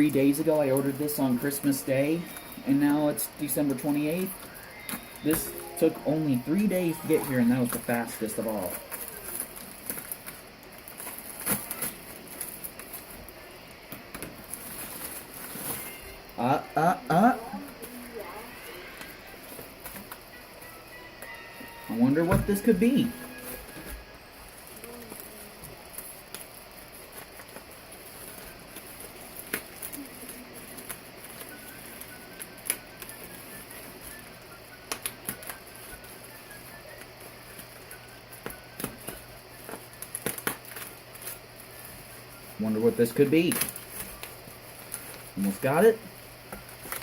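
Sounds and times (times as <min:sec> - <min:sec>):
cardboard packaging rustling: 0:00.3 - 0:16.2, 0:21.9 - 0:47.0.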